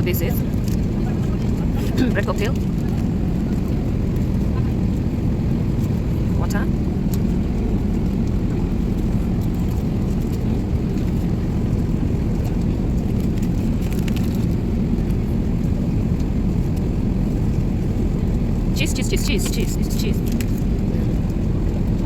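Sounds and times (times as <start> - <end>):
aircraft cabin rumble: 0.0 - 22.0.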